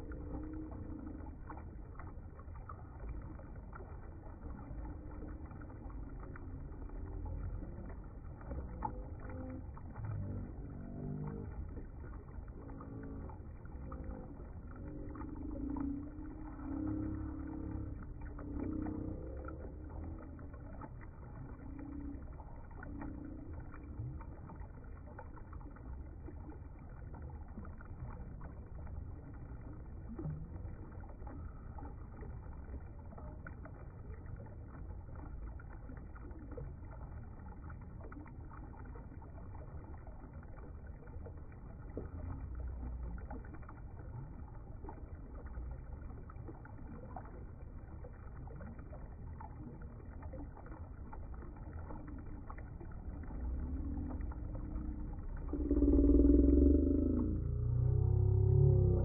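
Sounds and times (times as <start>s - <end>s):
river water running over rocks: 0.0s - 59.0s
water trickles and splashes: 0.0s - 59.0s.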